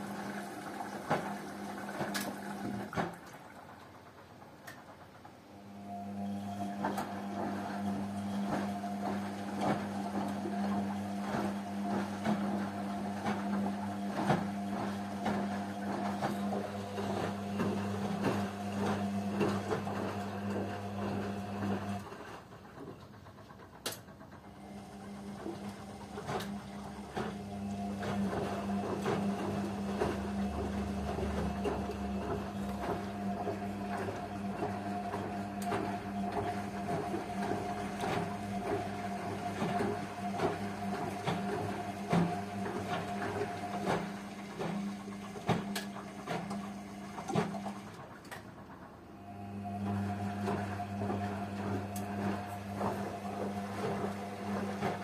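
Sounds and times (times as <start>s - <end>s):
clothes and water sloshing: 0.0s - 3.9s, 7.0s - 22.0s, 25.3s - 48.3s, 50.0s - 55.0s
washing machine motor hum: 0.0s - 55.0s.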